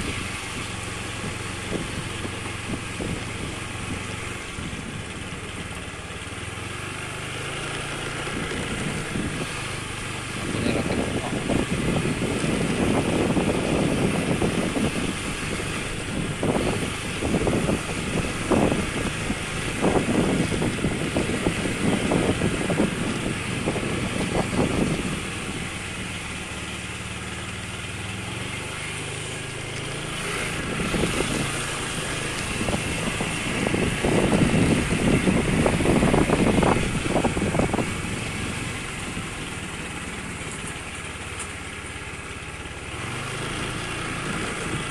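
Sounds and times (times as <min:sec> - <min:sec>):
small motorcycle engine running: 0:00.0 - 0:44.9.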